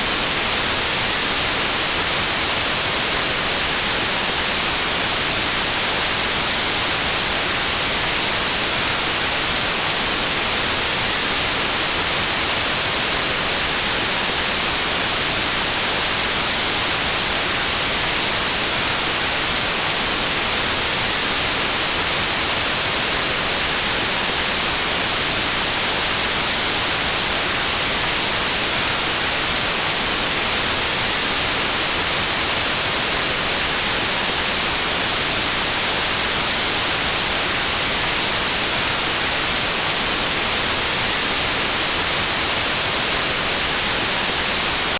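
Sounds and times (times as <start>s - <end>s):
white noise hiss: 0.0s - 44.9s.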